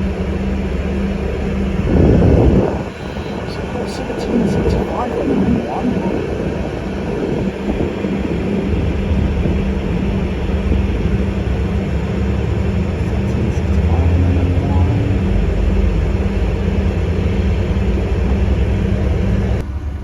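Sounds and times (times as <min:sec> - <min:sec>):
bus engine hum: 0:00.0 - 0:20.0
road noise: 0:00.0 - 0:20.0.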